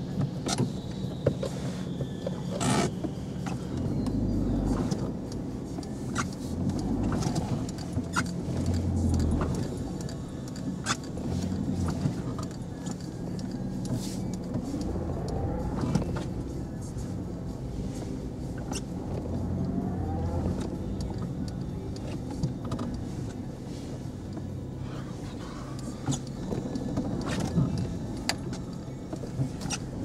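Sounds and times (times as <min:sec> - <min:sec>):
car engine running: 0:02.2 - 0:30.0.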